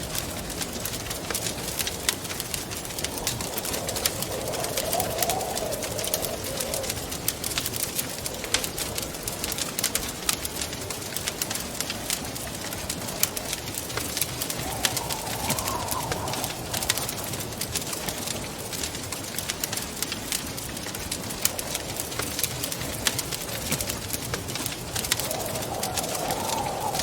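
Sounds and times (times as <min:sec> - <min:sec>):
wind howling: 0:00.0 - 0:27.0
wood fire crackling: 0:00.0 - 0:27.0.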